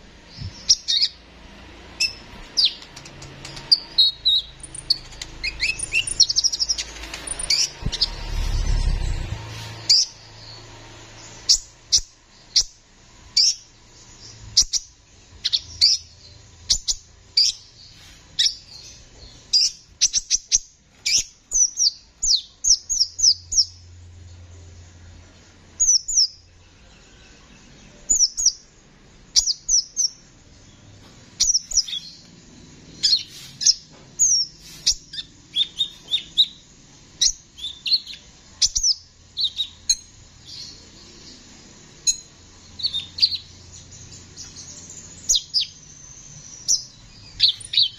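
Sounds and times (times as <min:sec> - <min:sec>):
sunbird singing high chirps: 0:00.0 - 0:01.3, 0:01.9 - 0:47.9.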